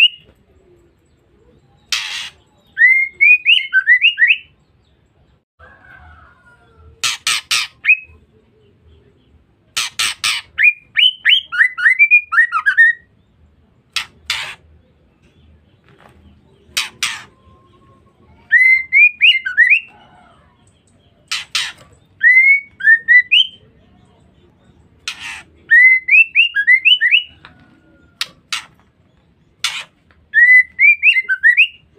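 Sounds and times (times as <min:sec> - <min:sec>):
bird calling with rasping notes: 0:00.0 - 0:05.1, 0:06.1 - 0:31.9.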